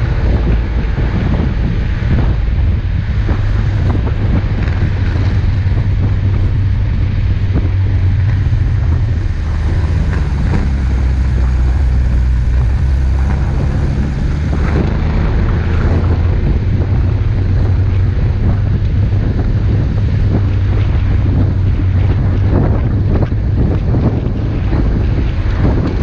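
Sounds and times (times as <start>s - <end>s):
vehicle rumbling on snow: 0.0s - 26.0s
wind buffeting microphone: 0.0s - 26.0s.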